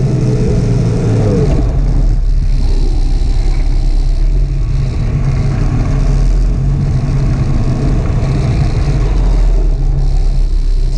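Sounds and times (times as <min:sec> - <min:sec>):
snowmobile engine droning: 0:00.0 - 0:10.9.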